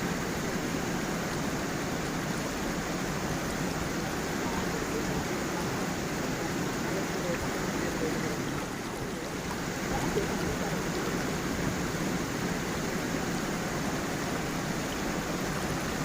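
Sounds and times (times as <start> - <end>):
stream and small waterfall: 0.0 - 16.0.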